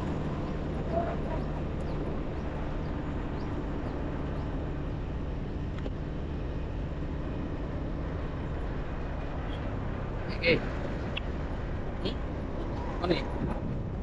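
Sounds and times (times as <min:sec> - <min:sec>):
motorbike engine hum: 0:00.0 - 0:14.0
road noise: 0:00.0 - 0:14.0.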